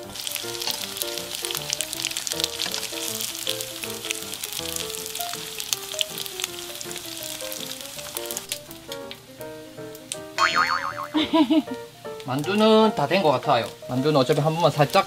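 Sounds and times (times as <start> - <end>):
dumplings sizzling in hot oil: 0.0 - 15.0
light background music: 0.0 - 15.0.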